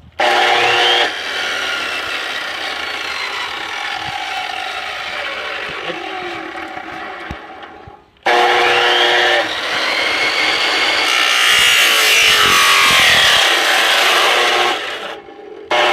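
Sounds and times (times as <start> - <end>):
chop saw motor winding down: 0.2 - 15.9.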